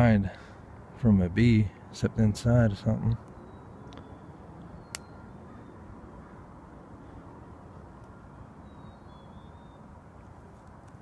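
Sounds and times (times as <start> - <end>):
low outdoor drone: 0.0 - 11.0.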